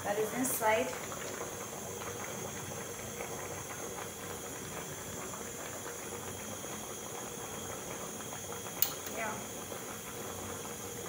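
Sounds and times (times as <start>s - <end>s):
soup boiling and bubbling: 0.0s - 11.0s.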